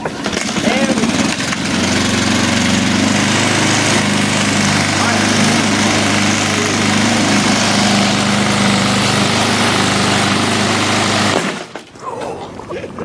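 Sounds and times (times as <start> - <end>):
lawnmower engine running: 0.0 - 12.0.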